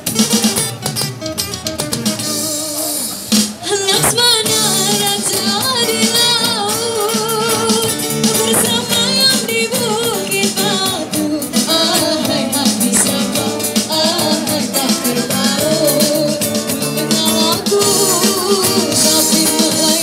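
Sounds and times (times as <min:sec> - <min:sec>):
acoustic guitar: 0:00.0 - 0:20.0
woman singing into microphone: 0:03.6 - 0:20.0.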